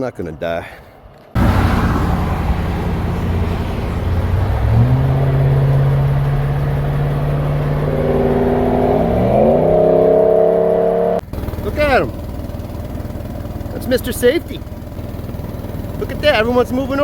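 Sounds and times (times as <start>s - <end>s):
vehicle engine running: 1.4s - 17.0s.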